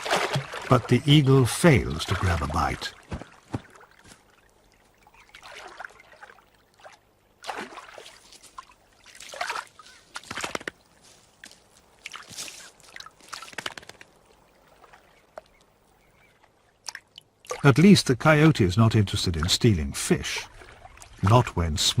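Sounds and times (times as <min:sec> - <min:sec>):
water sloshing and splashing: 0:00.0 - 0:17.8, 0:20.4 - 0:22.0.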